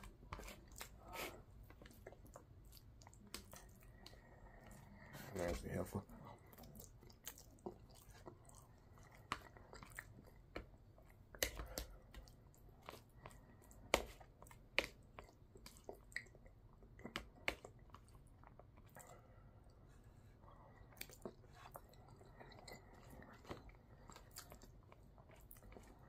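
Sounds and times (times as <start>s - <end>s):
person chewing and slurping: 0.0s - 19.8s, 20.4s - 26.0s.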